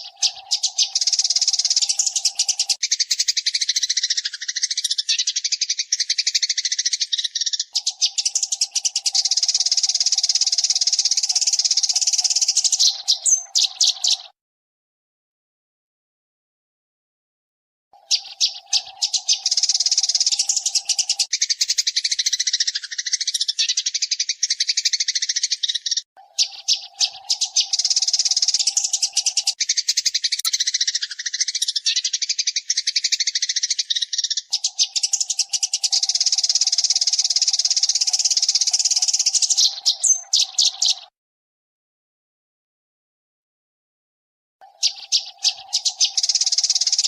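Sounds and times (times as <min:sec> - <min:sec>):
sparrows chirping: 0:00.0 - 0:14.4, 0:18.0 - 0:41.2, 0:44.6 - 0:47.0.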